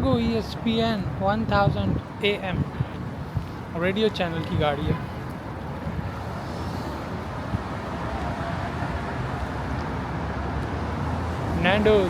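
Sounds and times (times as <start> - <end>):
cars passing on street: 0.0 - 12.0.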